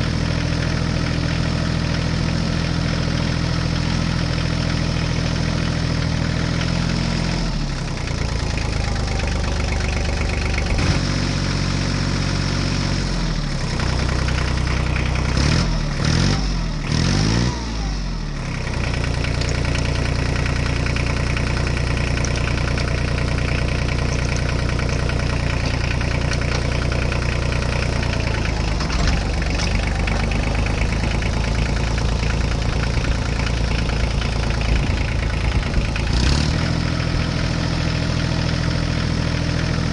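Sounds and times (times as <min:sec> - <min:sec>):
tractor engine revving: 0:00.0 - 0:39.9.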